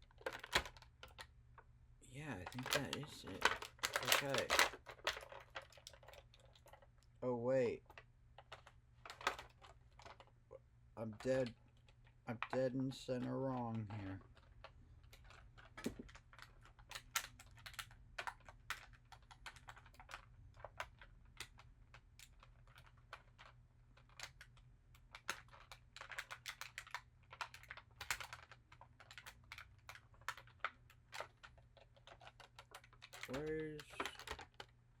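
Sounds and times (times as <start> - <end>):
plastic packaging clicks and taps: 0.0 - 1.7, 2.4 - 6.8, 7.9 - 10.3, 13.2 - 35.0.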